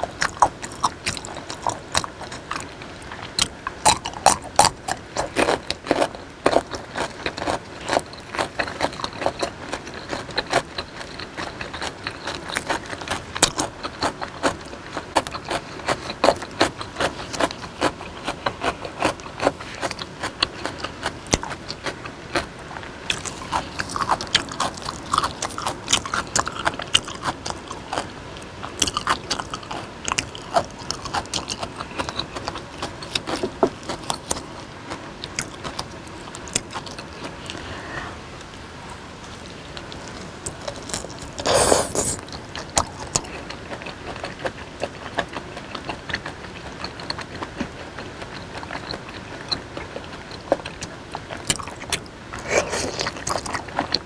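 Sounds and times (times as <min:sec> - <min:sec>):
wet chewing mouth sounds: 0:00.0 - 0:38.0, 0:39.4 - 0:54.0.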